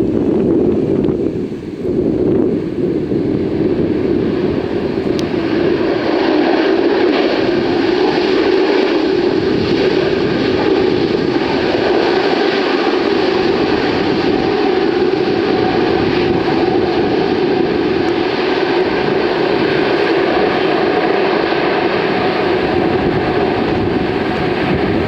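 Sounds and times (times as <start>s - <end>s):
jet airliner engine noise: 0.0s - 25.0s
wind buffeting microphone: 0.0s - 25.0s.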